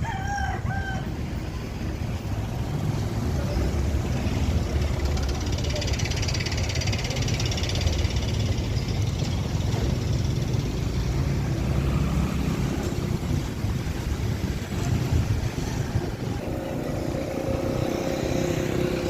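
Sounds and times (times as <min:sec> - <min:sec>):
road and wind noise: 0:00.0 - 0:19.0
vehicle engine low rumble: 0:00.0 - 0:19.0.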